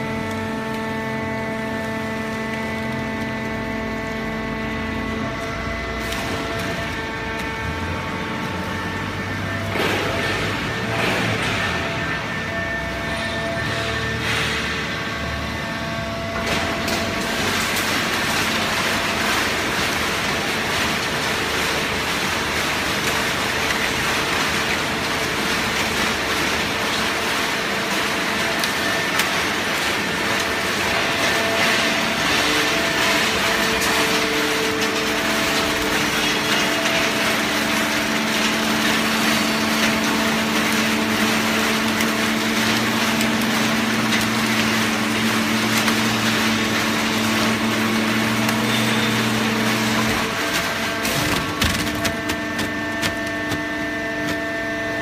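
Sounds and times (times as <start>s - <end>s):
baler machine running: 0.0s - 55.0s
deeper hum: 0.0s - 55.0s
hydraulic power unit hum: 0.0s - 55.0s.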